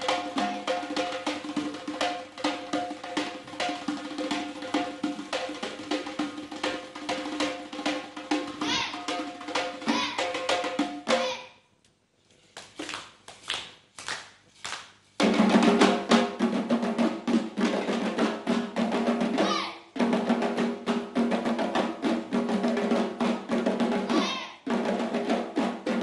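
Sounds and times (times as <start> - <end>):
frame drums playing fast rhythm: 0.0 - 11.4, 15.2 - 26.0.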